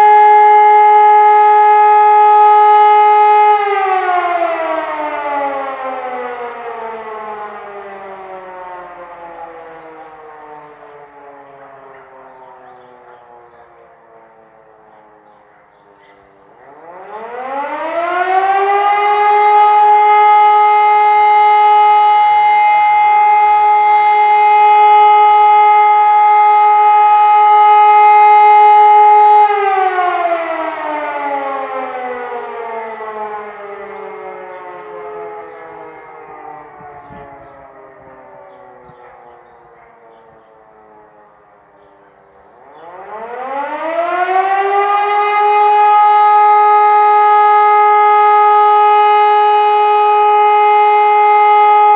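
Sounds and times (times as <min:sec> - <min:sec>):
civil-defence siren: 0:00.0 - 0:51.9
distant sirens winding down: 0:00.0 - 0:51.9.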